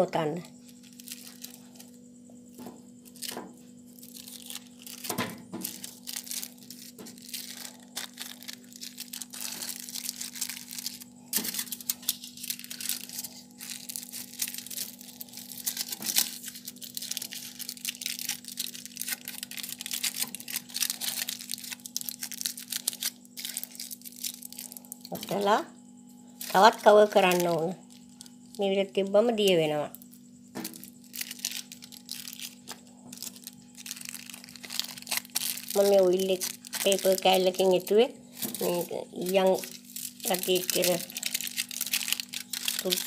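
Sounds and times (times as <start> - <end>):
steady low hum: 0.0 - 43.0
aluminium foil crinkling: 0.2 - 25.6, 26.3 - 43.0.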